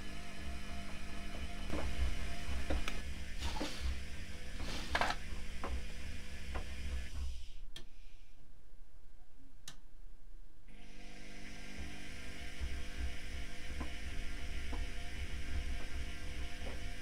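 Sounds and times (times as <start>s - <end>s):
washing machine motor hum: 0.0s - 7.8s, 10.7s - 17.0s.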